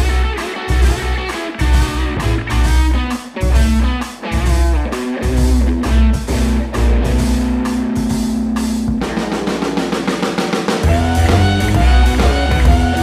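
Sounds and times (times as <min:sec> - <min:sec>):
drum fill: 0:00.0 - 0:13.0
rock band playing: 0:00.0 - 0:13.0.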